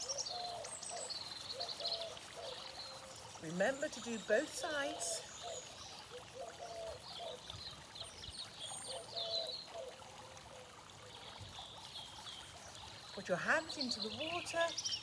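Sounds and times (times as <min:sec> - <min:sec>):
fountain trickling: 0:00.0 - 0:15.0.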